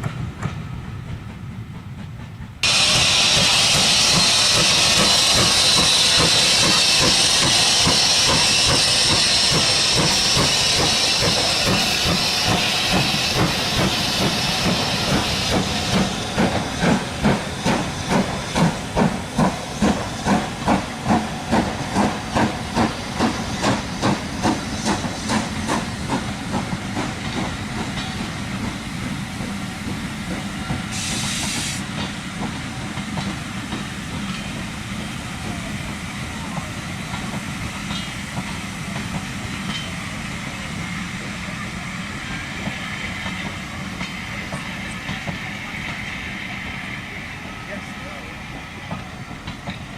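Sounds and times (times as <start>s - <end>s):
steam locomotive chuffing: 0.0s - 49.9s
steam hissing: 2.6s - 49.9s.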